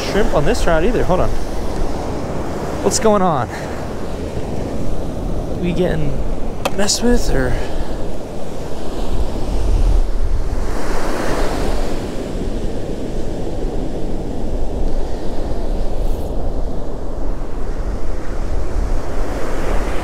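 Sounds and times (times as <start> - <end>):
ocean surf breaking: 0.0 - 20.0
wind rumbling on microphone: 0.0 - 20.0.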